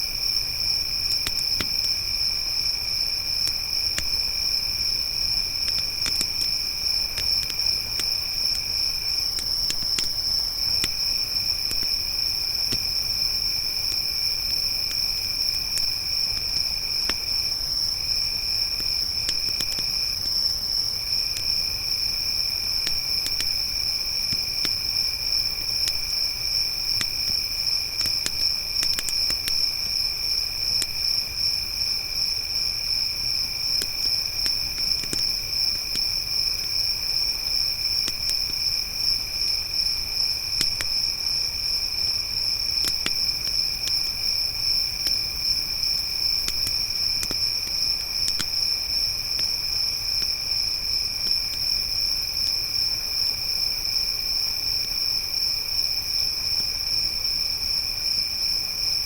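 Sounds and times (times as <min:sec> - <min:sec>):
campfire crackling: 0:00.0 - 0:52.5
crickets chirping: 0:00.0 - 0:59.0.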